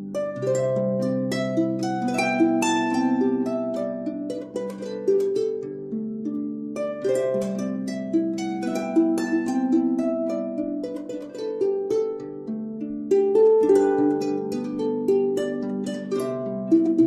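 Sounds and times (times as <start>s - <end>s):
plucked string melody: 0.0s - 17.0s.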